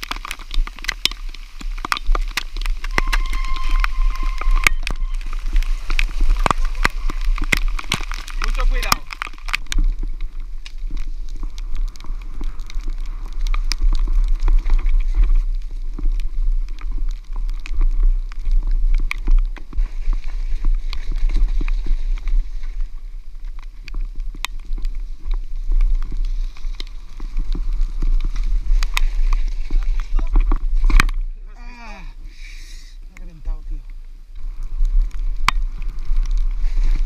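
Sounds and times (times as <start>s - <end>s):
bike rattling over bumpy trail: 0.0s - 31.5s, 34.0s - 37.0s
wind rumbling on microphone: 0.0s - 37.0s.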